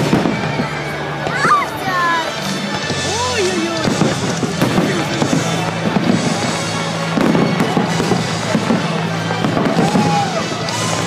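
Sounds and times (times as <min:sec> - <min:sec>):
fireworks bursting and crackling: 0:00.0 - 0:11.0
music: 0:00.0 - 0:11.0.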